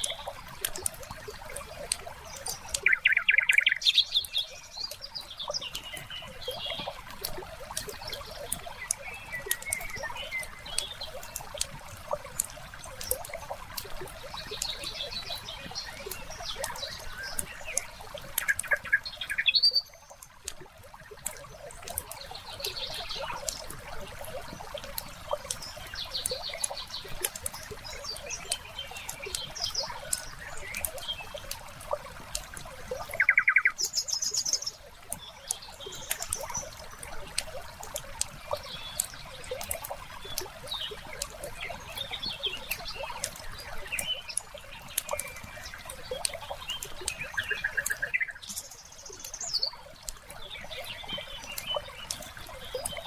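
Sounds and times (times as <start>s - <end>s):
faint trickle of water: 0.0s - 53.0s
small birds chirping: 0.0s - 53.0s.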